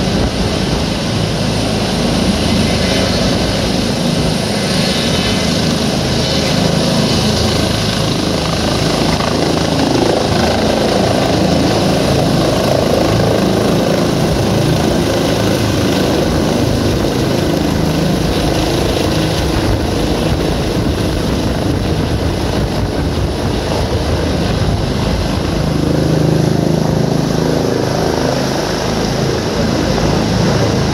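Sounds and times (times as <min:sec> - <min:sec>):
helicopter flying low: 0:00.0 - 0:30.9.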